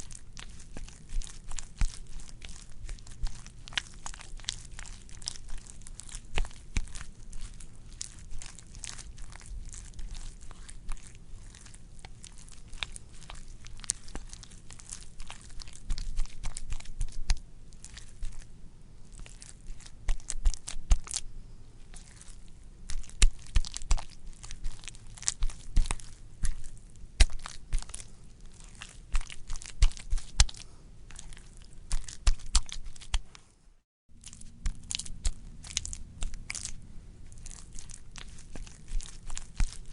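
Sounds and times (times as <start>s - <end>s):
wet squelching: 0.0s - 21.2s, 21.9s - 33.4s, 34.2s - 39.9s.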